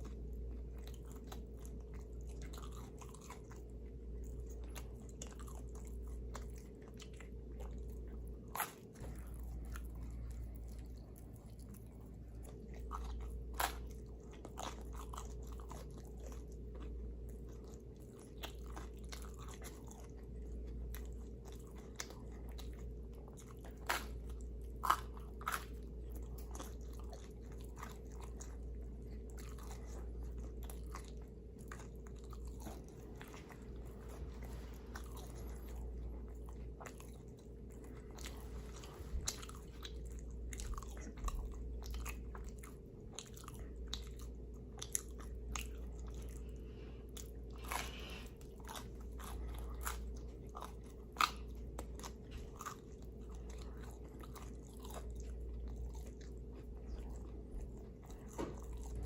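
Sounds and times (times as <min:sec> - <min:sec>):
chewing and biting crunches: 0:00.0 - 0:59.0
low hum: 0:00.0 - 0:59.0.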